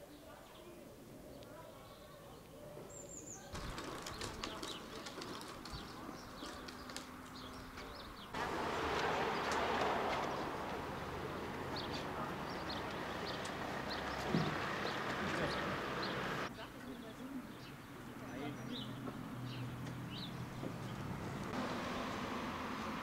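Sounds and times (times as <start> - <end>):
small birds chirping: 0.0 - 8.4, 9.2 - 22.1.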